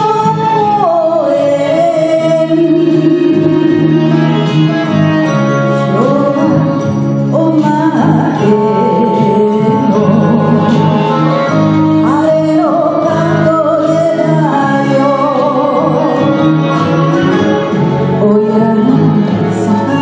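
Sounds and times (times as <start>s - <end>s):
woman singing into a microphone: 0.0s - 4.8s, 5.8s - 20.0s
instrumental accompaniment: 0.0s - 20.0s.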